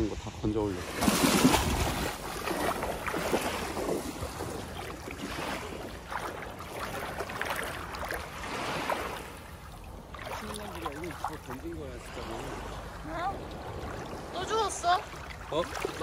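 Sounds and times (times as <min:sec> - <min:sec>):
wading through shallow water: 0:00.2 - 0:16.0.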